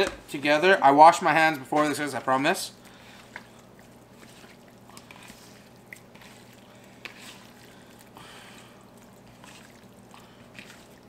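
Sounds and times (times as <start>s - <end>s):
wet squishing of kneaded chicken: 1.0s - 11.0s.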